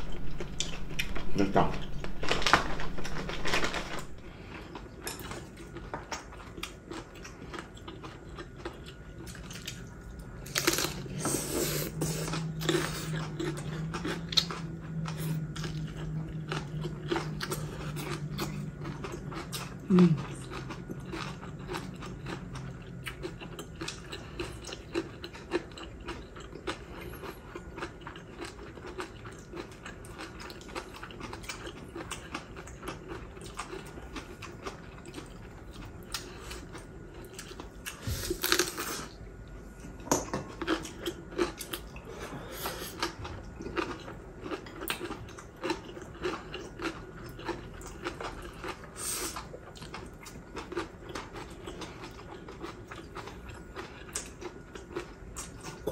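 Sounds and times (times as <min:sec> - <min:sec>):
people chewing crunchy food: 0:00.0 - 0:55.9.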